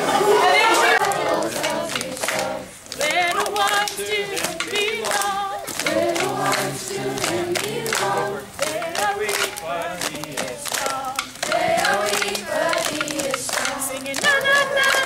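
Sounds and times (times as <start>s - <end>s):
group of voices singing: 0.0s - 15.0s
hands clapping in rhythm: 0.0s - 15.0s.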